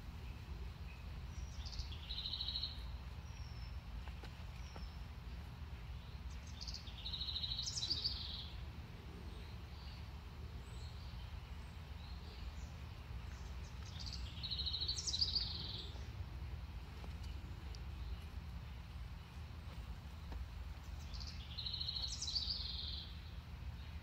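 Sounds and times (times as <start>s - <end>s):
low background rumble: 0.0s - 24.0s
songbird singing with a trill: 0.0s - 24.0s.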